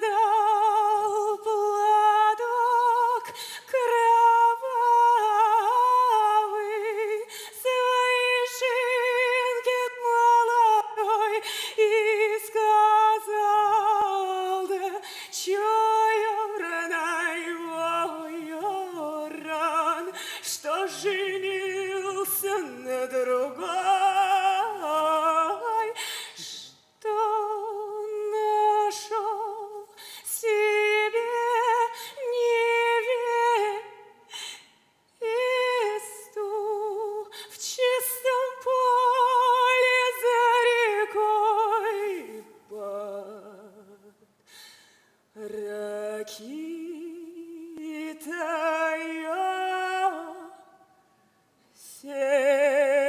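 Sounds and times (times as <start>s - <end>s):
woman singing unaccompanied: 0.0s - 34.1s, 35.2s - 44.2s, 45.4s - 50.8s, 51.8s - 53.0s.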